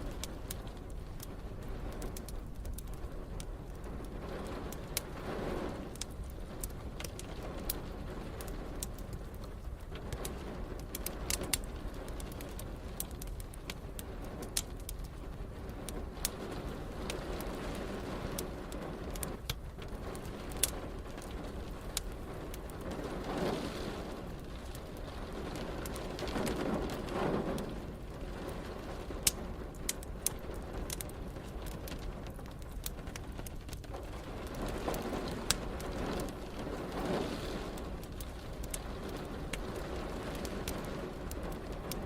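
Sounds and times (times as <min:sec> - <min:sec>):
steady rain: 0:00.0 - 0:42.0
wood fire crackling and popping: 0:00.0 - 0:42.0.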